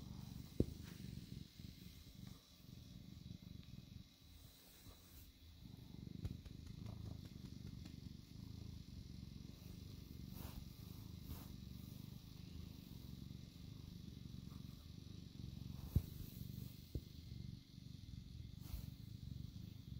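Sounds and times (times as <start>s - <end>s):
cat purring: 0.0s - 19.9s.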